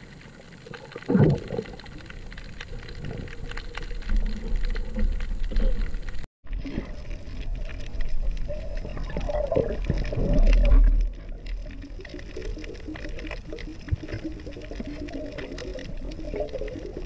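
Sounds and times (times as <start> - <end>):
underwater gurgling water: 0.0 - 17.0.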